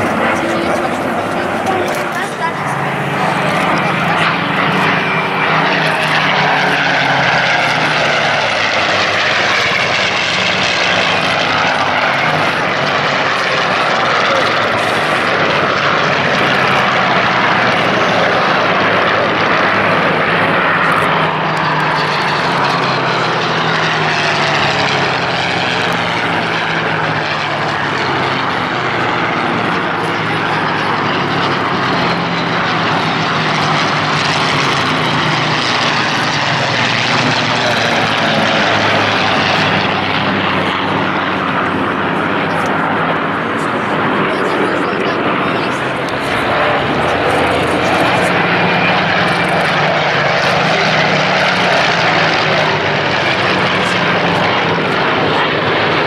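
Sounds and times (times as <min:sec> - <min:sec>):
propeller aircraft droning past: 0:00.0 - 0:56.0.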